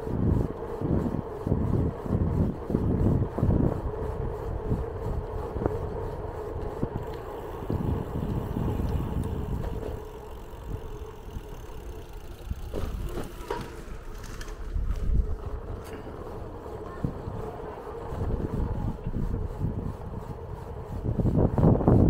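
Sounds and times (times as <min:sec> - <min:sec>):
bicycle tyres on paving stones: 0:00.0 - 0:22.0
wind buffeting microphone: 0:00.0 - 0:22.0.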